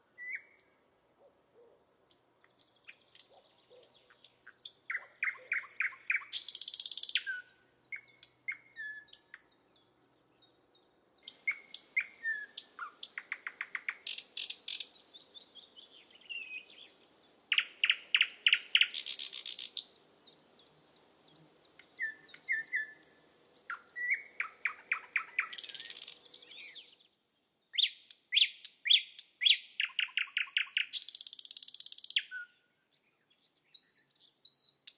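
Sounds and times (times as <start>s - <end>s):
bird singing trills and whistles: 0.1s - 0.8s, 2.6s - 9.6s, 11.1s - 34.9s.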